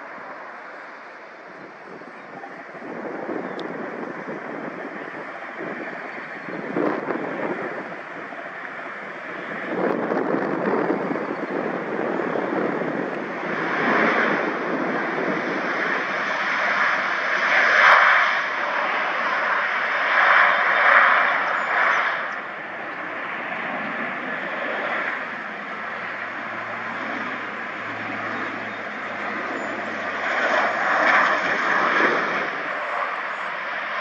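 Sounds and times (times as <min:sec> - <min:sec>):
airplane engines rushing: 0:00.0 - 0:34.0.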